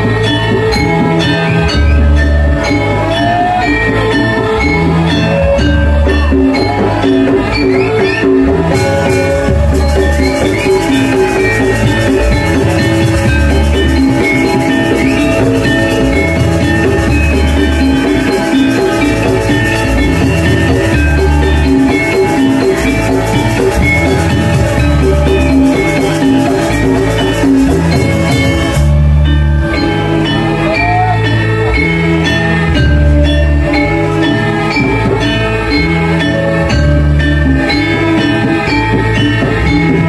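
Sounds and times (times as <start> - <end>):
drums: 0.0 - 40.0
ringing metallophones: 0.0 - 40.0.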